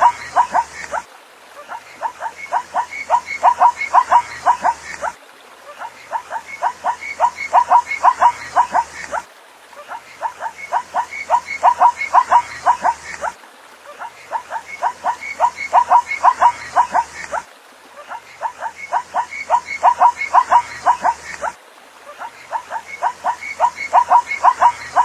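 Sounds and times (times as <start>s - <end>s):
zebra yelping barks: 0.0s - 1.0s, 1.6s - 9.2s, 9.8s - 17.4s, 18.0s - 21.6s, 22.2s - 25.0s.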